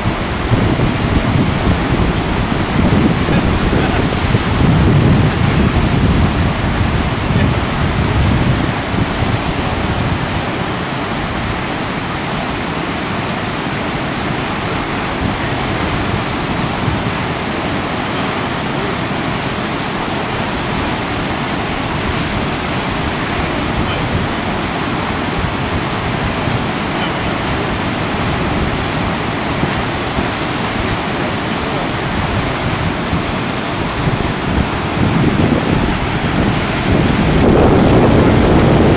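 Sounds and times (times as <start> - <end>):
river rapids rushing: 0.0 - 38.9
wind buffeting microphone: 0.0 - 38.9.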